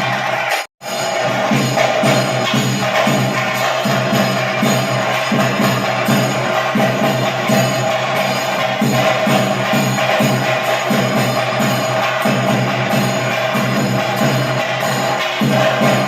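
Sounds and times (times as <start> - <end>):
drum steady beat: 0.0 - 16.0
jingling metal percussion: 0.0 - 16.0.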